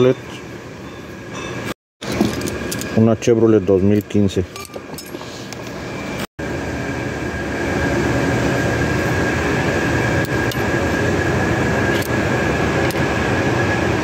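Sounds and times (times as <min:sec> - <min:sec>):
mechanical noise with high whine: 0:00.0 - 0:14.0.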